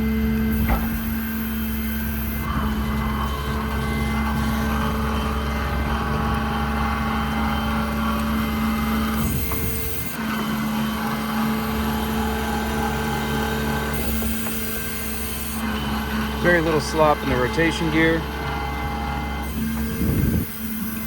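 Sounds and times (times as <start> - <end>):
crane hydraulics hum: 0.0 - 21.0
diesel truck engine droning: 0.0 - 21.0.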